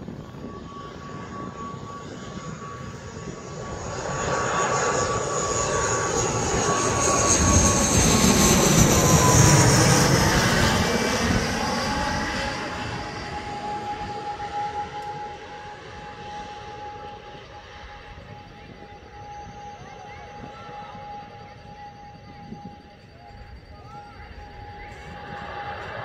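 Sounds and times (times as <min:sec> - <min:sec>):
turboprop airliner flying past: 0:00.0 - 0:26.0
whining tone dropping in pitch: 0:00.0 - 0:26.0.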